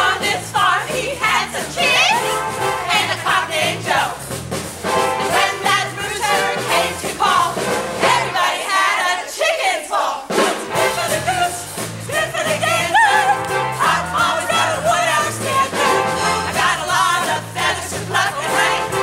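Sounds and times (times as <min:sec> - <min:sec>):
voices singing: 0:00.0 - 0:04.3, 0:04.9 - 0:19.0.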